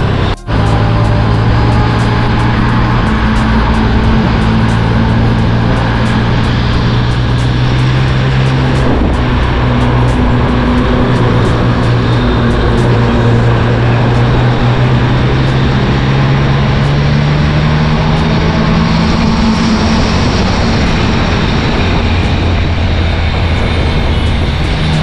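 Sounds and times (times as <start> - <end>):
wind noise: 0.0 - 25.0.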